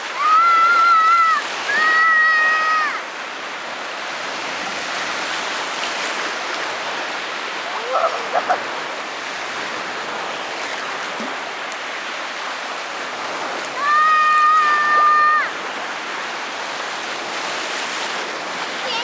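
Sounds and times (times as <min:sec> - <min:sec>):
surf waves breaking: 0:00.0 - 0:19.0.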